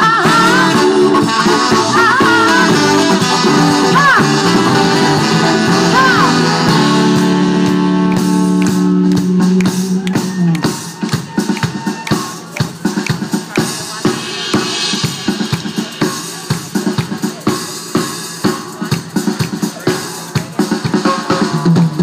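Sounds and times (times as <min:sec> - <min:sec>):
drum kit groove: 0:00.0 - 0:22.0.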